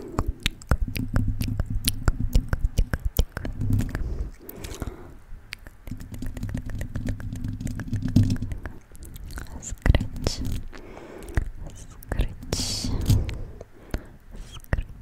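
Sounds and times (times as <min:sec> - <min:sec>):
tongue and lip clicks: 0:00.0 - 0:15.0.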